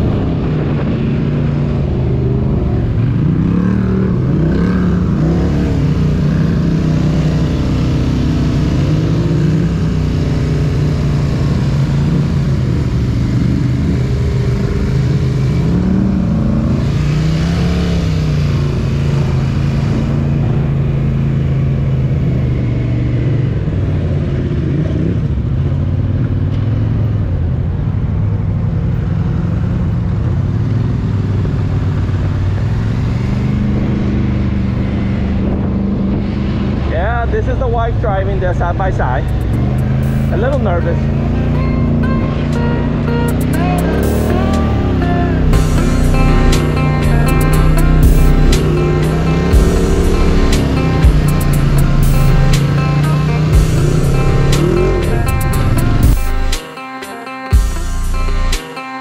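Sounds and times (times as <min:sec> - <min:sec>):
vehicle engine revving: 0:00.0 - 0:56.9, 0:57.5 - 0:59.0.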